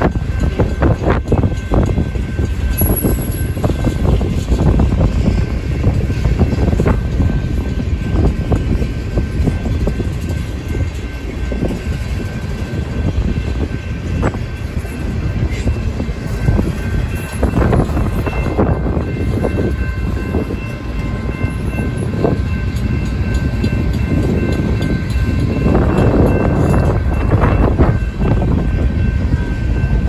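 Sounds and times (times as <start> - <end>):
faint crossing bell ringing: 0.0 - 4.5, 5.2 - 30.0
freight train cars rumbling past: 0.0 - 30.0.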